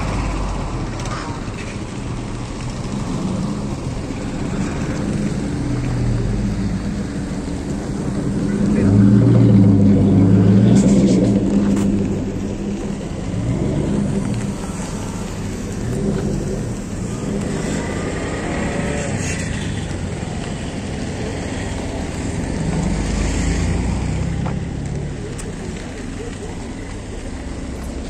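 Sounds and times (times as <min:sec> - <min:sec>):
tyres rolling over dirt: 0:00.0 - 0:28.0
vehicles driving on dirt road: 0:00.0 - 0:28.0.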